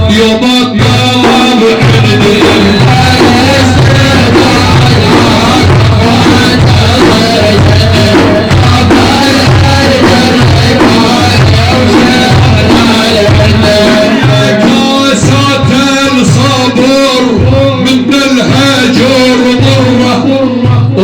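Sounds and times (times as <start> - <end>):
percussion beat: 0.0 - 21.0
repeating bass pattern: 0.0 - 21.0.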